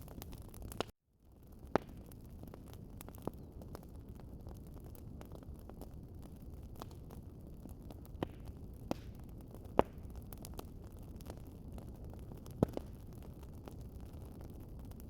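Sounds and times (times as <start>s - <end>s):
sharp pops of burning wood: 0.0s - 0.9s, 1.5s - 15.0s
low rumble of flames: 0.0s - 15.0s
wood fire crackling: 0.0s - 15.0s.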